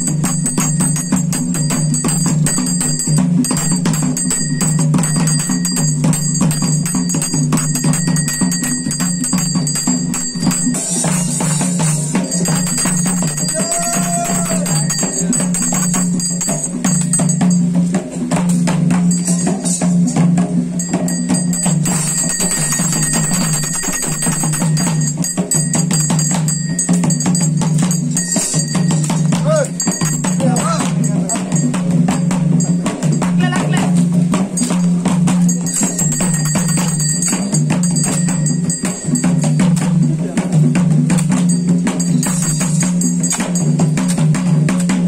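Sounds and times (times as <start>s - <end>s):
fast drumming: 0.0s - 45.0s
jingling cymbals: 0.0s - 45.0s.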